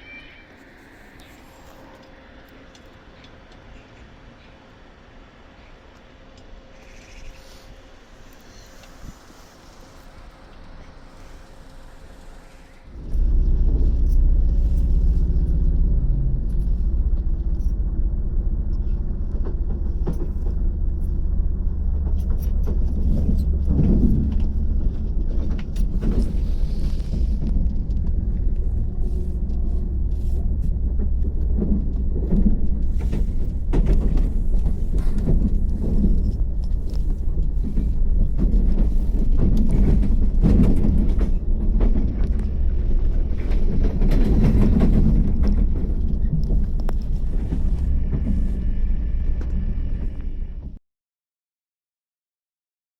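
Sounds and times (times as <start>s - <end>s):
train rumble and hum: 0.0s - 50.8s.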